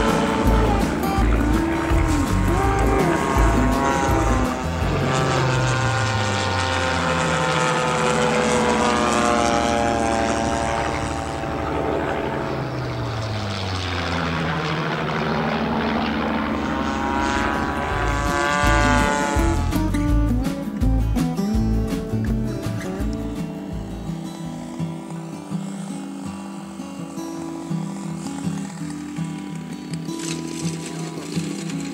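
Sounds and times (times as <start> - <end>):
model plane engine passing: 0.0 - 19.9, 22.8 - 31.9.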